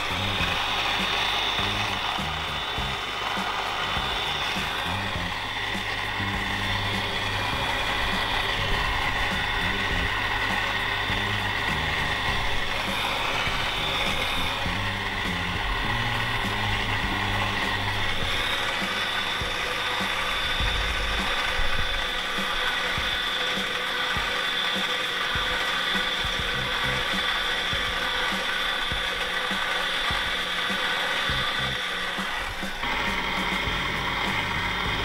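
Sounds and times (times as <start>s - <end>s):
mixer high whine: 0.0s - 35.0s.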